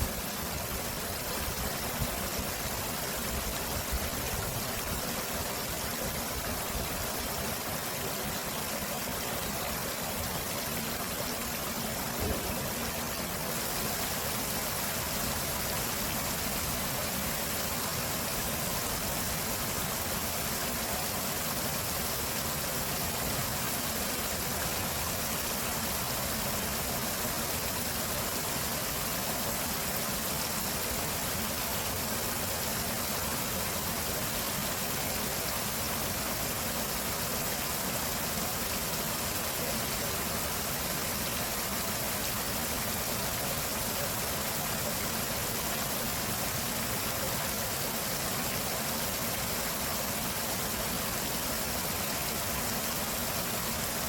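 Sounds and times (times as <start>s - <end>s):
stream water splashing: 0.0s - 54.0s.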